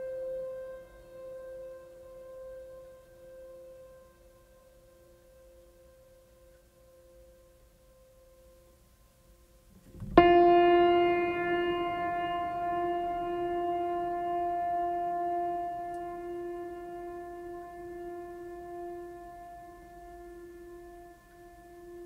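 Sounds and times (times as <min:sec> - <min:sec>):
loud sustained note with overtones: 0:00.0 - 0:08.8, 0:09.7 - 0:22.0.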